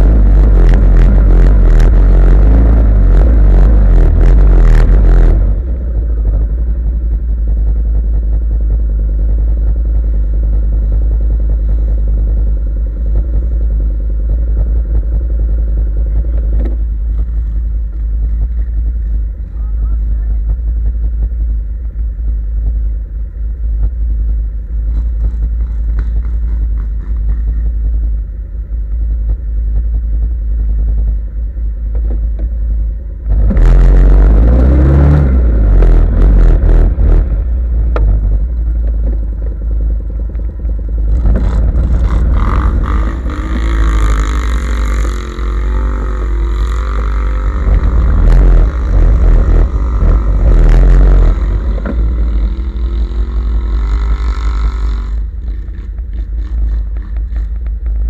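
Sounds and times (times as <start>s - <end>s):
off-road engine revving: 0.0s - 21.7s, 23.8s - 28.2s, 33.2s - 58.0s.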